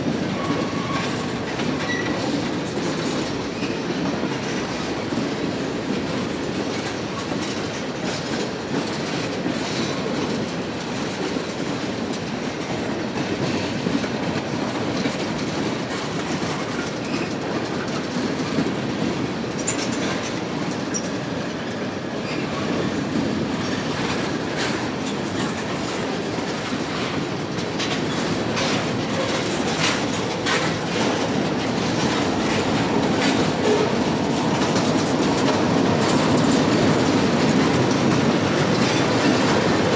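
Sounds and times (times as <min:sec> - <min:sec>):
train wheels rumbling on rail: 0:00.0 - 0:39.9
wheels clicking over rail joints: 0:00.1 - 0:21.5, 0:22.2 - 0:39.9.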